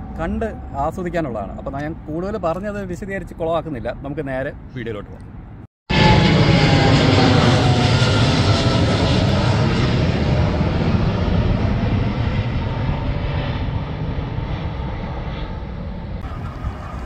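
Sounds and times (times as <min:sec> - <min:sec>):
jet airliner passing overhead: 0:00.0 - 0:02.9, 0:05.9 - 0:17.0.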